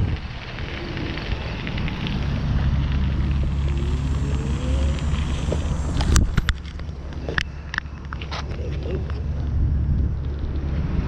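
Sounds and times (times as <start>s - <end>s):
bike tyres rolling on gravel: 0.0s - 11.0s.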